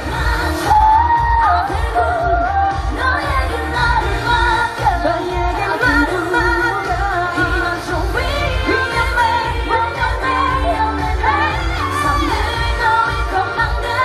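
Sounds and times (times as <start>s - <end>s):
pop backing track with bass beat: 0.0s - 14.0s
women singing into microphones: 0.0s - 14.0s.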